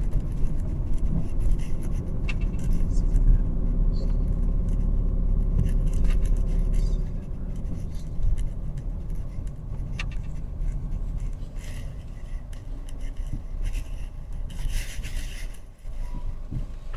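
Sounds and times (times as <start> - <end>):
engine and road rumble: 0.0 - 16.9
light rustles: 0.0 - 16.9.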